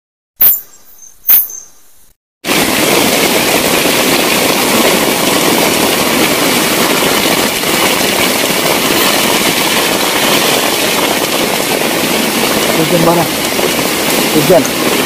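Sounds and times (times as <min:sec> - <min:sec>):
heavy rain on a plastic tarp: 0:02.4 - 0:15.0.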